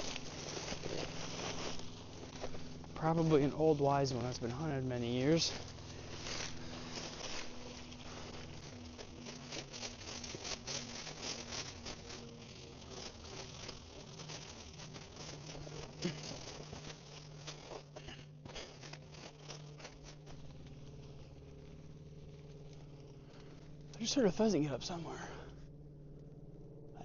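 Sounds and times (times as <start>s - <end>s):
dry grass crunching underfoot: 0.0s - 26.7s.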